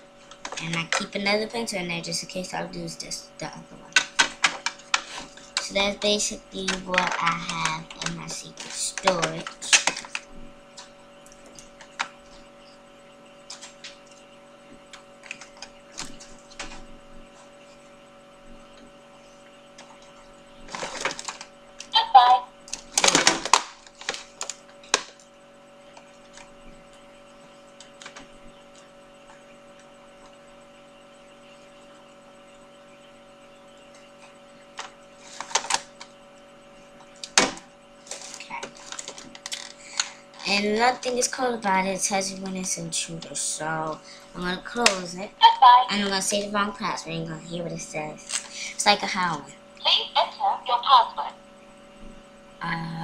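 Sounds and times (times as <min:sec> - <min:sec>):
steady electrical hum: 0:00.0 - 0:53.0.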